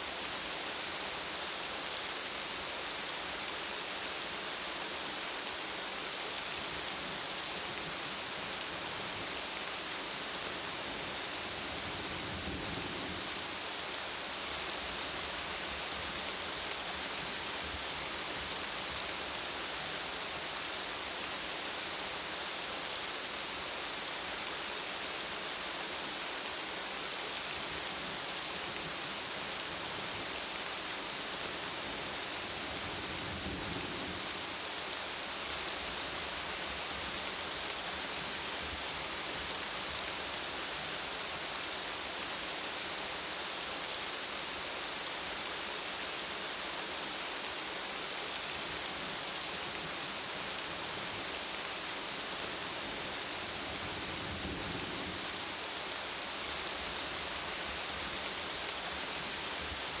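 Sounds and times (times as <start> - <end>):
rain on hard surfaces: 0.0 - 60.0.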